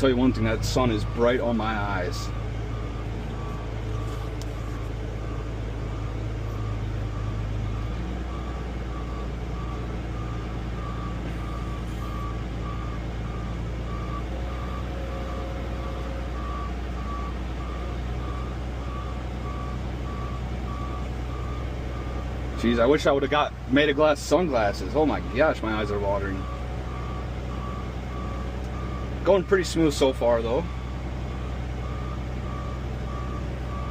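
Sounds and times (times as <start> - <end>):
heavy vehicle engine running: 0.0 - 33.9
warning alarm beeping: 0.0 - 33.9.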